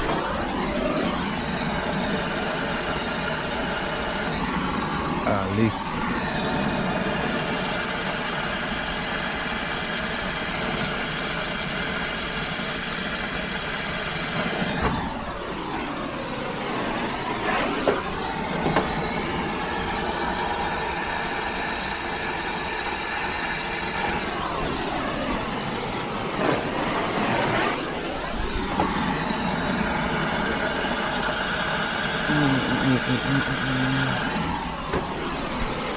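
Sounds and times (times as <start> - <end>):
torch flame hissing: 0.0 - 35.9.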